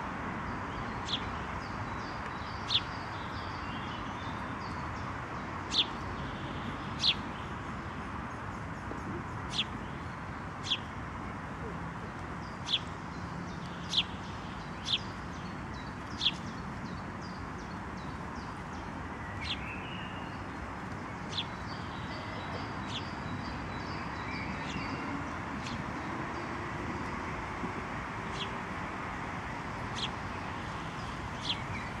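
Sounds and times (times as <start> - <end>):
sparrows chirping: 0.6 - 32.0.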